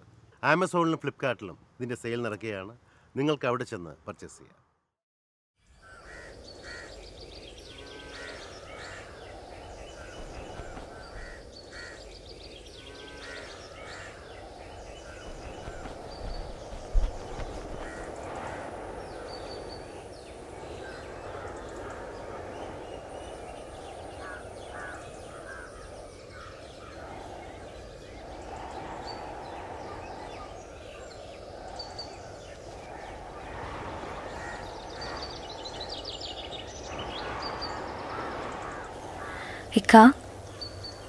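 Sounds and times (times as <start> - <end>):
birds chirping: 5.8 - 41.0
wind rushing: 6.6 - 40.8.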